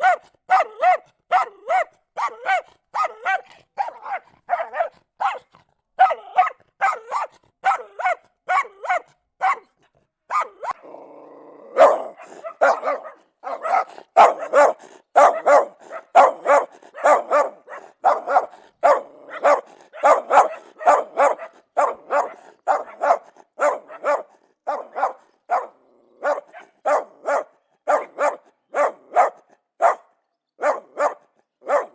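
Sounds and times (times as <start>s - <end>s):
dogs barking: 0.0s - 10.9s, 11.6s - 31.9s.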